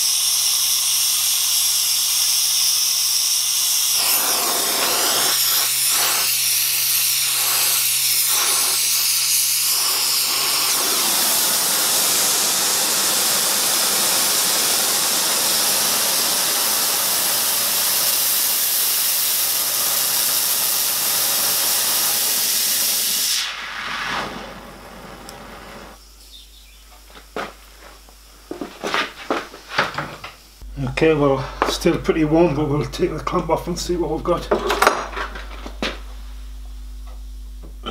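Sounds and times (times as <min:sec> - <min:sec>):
gas torch flame hissing: 0:00.0 - 0:33.8.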